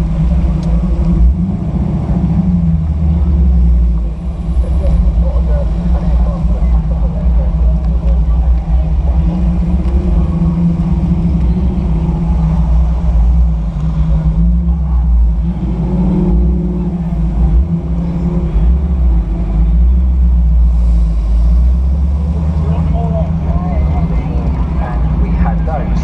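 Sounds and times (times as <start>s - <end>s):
car engine running at low revs: 0.0s - 26.0s.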